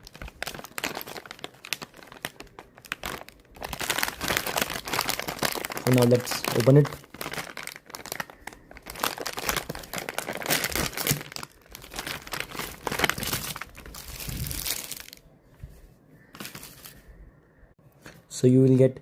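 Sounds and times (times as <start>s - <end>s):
snack packet crinkling: 0.0s - 15.2s, 16.4s - 17.0s.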